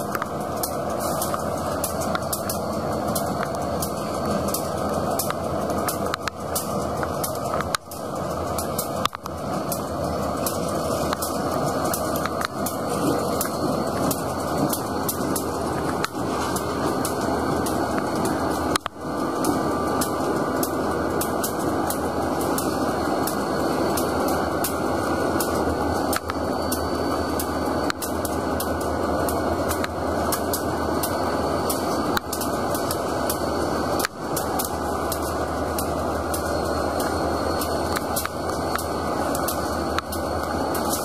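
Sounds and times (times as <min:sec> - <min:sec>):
diesel locomotive engines running: 0:00.0 - 0:41.0.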